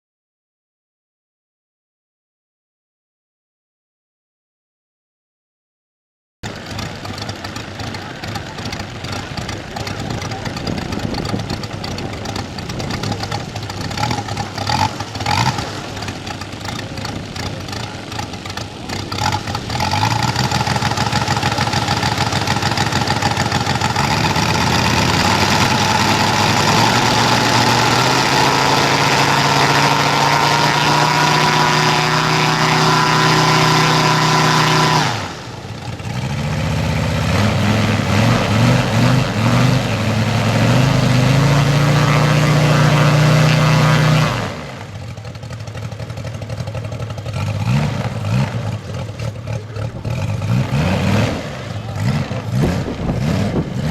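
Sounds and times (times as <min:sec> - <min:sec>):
model airplane engine running: 0:06.4 - 0:53.9.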